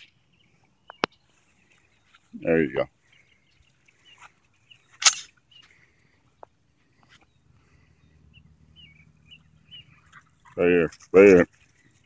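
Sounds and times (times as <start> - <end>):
faint bird chirps: 0.0 - 10.6.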